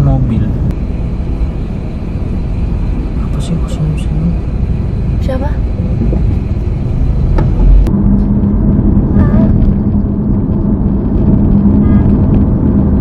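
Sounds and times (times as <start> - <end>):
car road and engine rumble: 0.0 - 13.0
steady low hum: 0.0 - 13.0.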